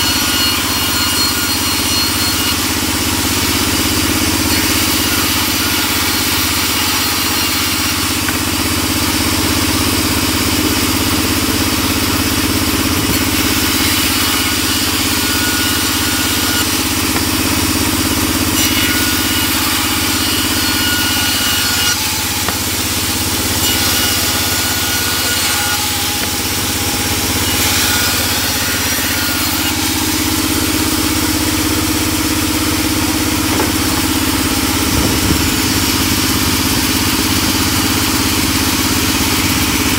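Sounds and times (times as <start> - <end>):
band saw humming: 0.0 - 39.9
saw blade cutting wood: 0.0 - 39.9.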